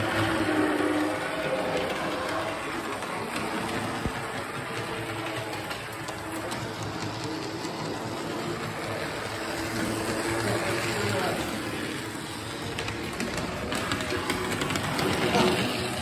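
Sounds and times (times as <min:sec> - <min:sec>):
faint clicking over rails: 0:00.0 - 0:16.0.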